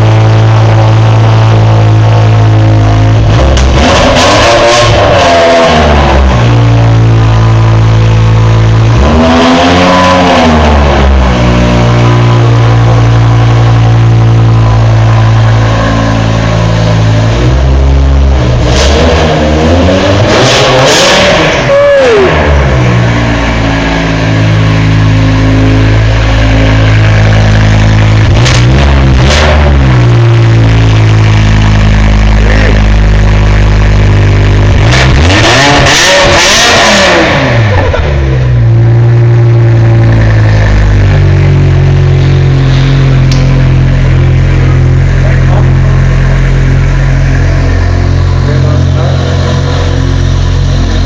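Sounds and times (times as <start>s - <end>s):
car engine idling: 0.0s - 5.0s, 5.8s - 9.3s, 10.8s - 35.7s, 36.5s - 51.0s.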